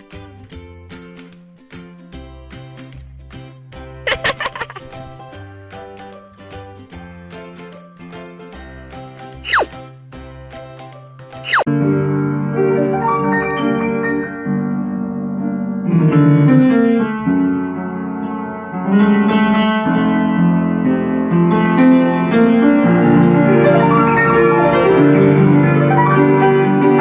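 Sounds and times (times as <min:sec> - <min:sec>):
piano background music: 0:00.0 - 0:27.0.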